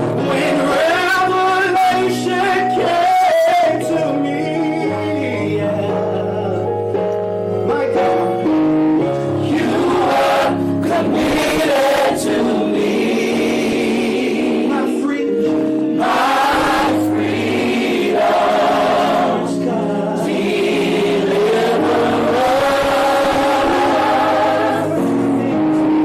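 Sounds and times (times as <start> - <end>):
gospel choir singing: 0.0 - 6.9, 9.1 - 26.0
instrumental accompaniment: 0.0 - 26.0.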